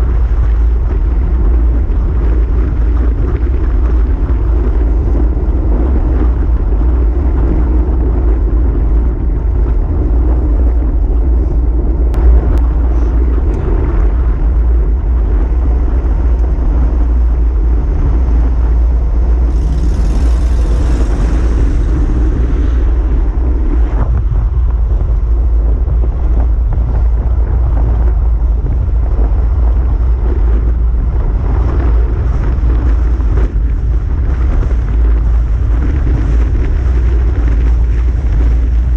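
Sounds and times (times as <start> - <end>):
road noise: 0.0 - 34.2
wind buffeting microphone: 0.0 - 38.9.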